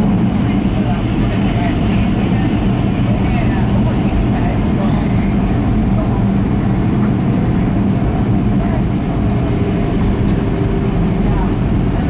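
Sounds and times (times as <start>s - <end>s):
constant hum: 0.0s - 12.0s
jet engines droning in cabin: 0.0s - 12.0s.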